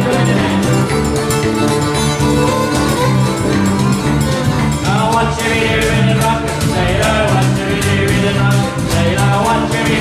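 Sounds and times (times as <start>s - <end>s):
bass guitar: 0.0s - 10.0s
electric guitar: 0.0s - 10.0s
fiddle: 0.0s - 10.0s
steady drum beat: 0.0s - 10.0s.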